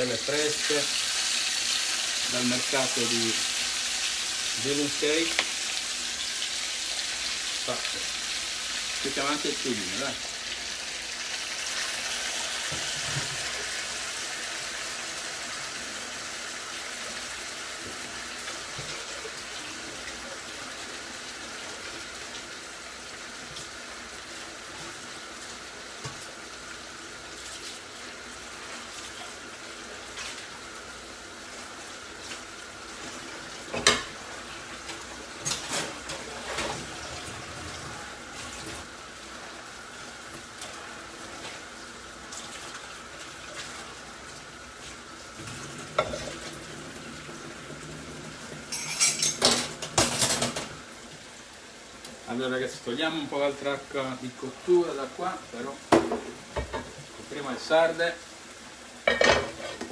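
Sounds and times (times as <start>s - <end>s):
fish sizzling in skillet: 0.0s - 37.3s, 37.9s - 59.9s
water boiling in pot: 0.0s - 59.9s.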